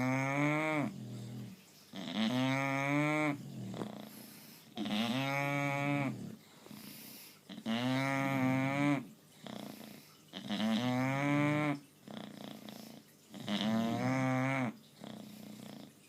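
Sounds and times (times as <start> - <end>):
dog breathing: 0.0 - 16.0
dog snoring: 0.0 - 16.0.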